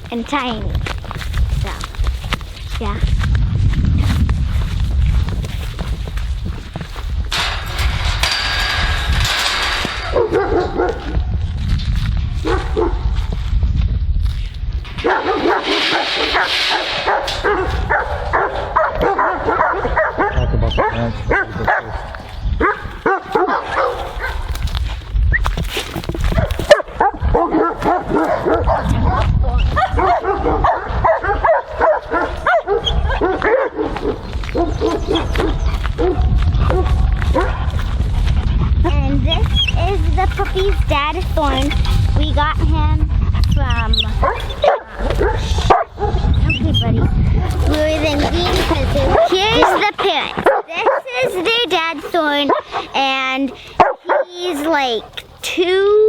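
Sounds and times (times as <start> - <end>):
low rumble: 0.6 - 23.1, 24.1 - 49.6.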